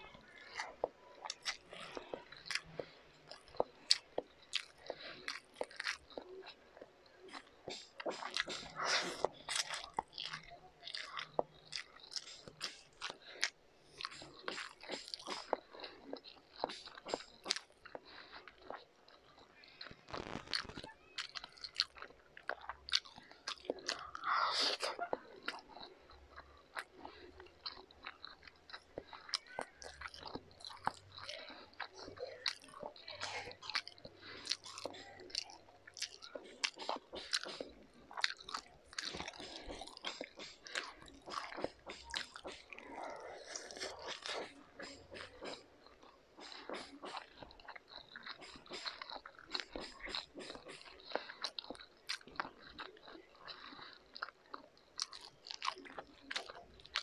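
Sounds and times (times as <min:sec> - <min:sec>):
person chewing noodles: 0:00.0 - 0:57.0.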